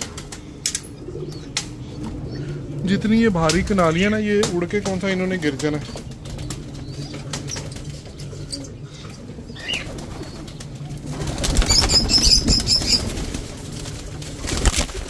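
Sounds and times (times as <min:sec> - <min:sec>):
pigeon wings flapping: 0:00.0 - 0:08.5, 0:09.6 - 0:15.0.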